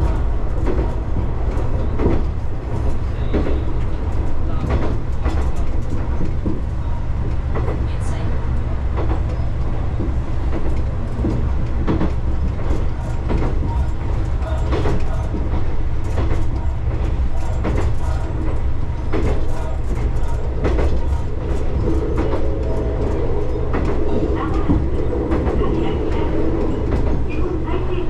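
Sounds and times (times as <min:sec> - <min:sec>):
diesel railcar rumble: 0:00.0 - 0:28.0.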